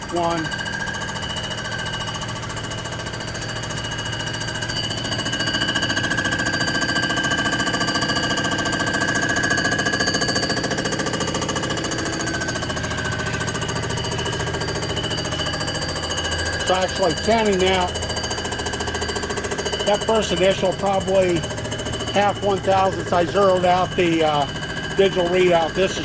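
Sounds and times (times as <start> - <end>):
surfacing machine cutter whine: 0.0 - 26.0.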